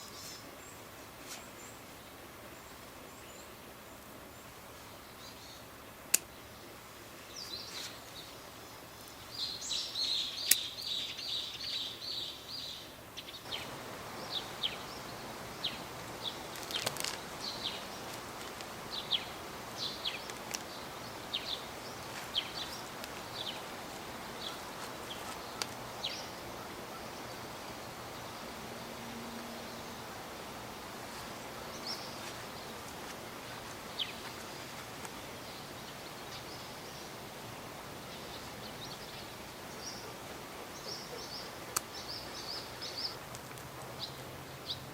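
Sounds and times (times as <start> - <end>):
birds trilling and chirping: 0.0 - 37.2
steady hiss: 0.0 - 44.9.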